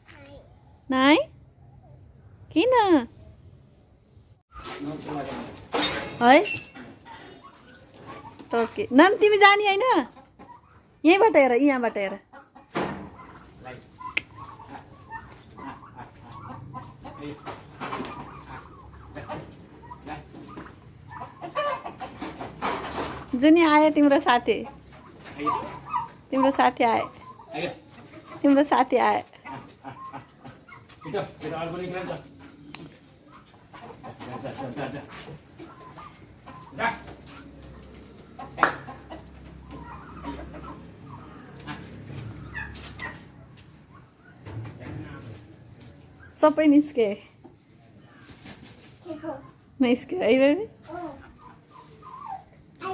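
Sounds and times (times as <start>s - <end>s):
turkeys clucking and calling: 4.5s - 46.7s, 47.4s - 52.8s.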